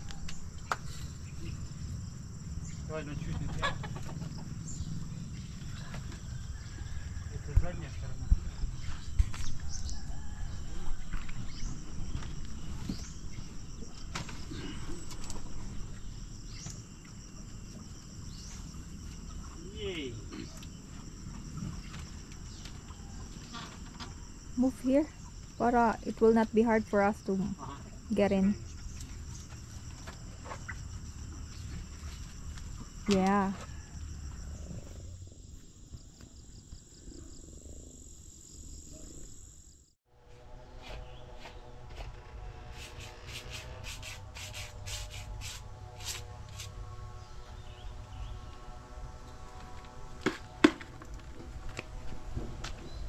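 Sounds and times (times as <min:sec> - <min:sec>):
crickets chirring: 0:00.0 - 0:40.0, 0:41.9 - 0:53.0.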